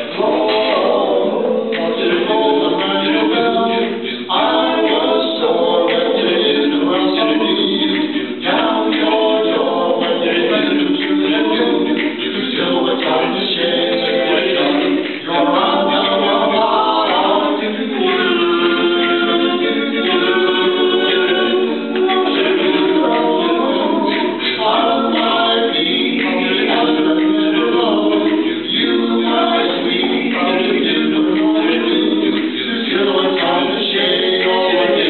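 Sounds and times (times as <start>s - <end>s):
male vocal quartet singing: 0.0s - 35.0s.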